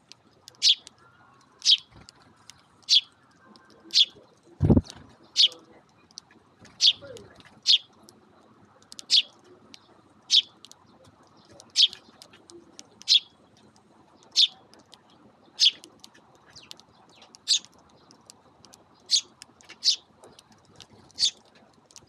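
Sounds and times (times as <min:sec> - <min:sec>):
sparrows chirping: 0:00.0 - 0:22.0.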